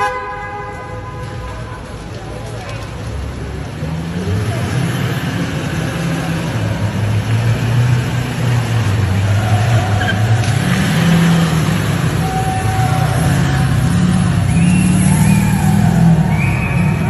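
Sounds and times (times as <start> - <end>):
pickup truck engines running: 1.2 - 17.0.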